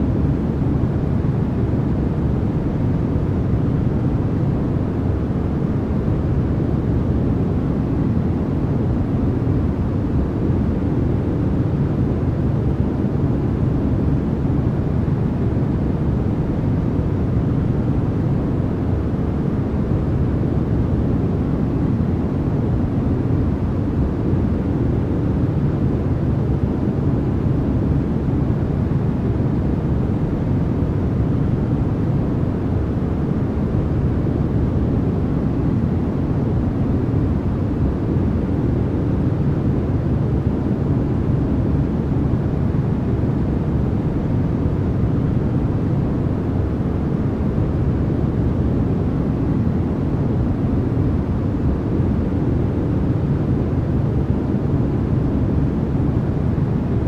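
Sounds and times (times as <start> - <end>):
deep white noise hiss: 0.0 - 57.0.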